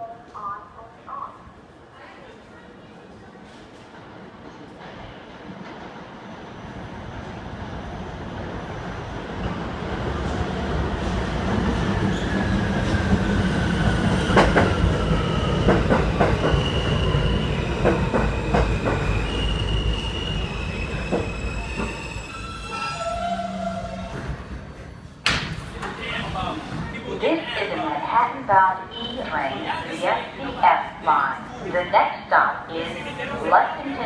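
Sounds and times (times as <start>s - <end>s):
subway train electric whine: 2.6s - 34.0s.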